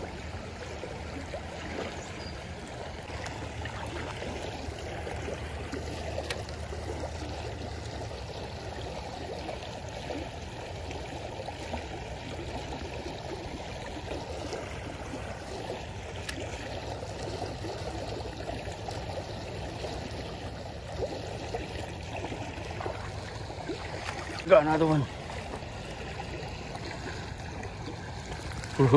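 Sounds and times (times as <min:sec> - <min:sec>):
creek water flowing over rocks: 0:00.0 - 0:28.9.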